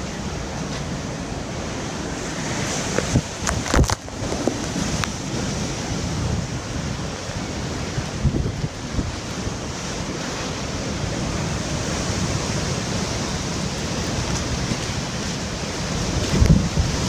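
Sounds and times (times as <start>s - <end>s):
heavy rain downpour: 0.0s - 17.0s
wind buffeting microphone: 0.0s - 17.0s
strong wind rushing: 1.0s - 17.0s.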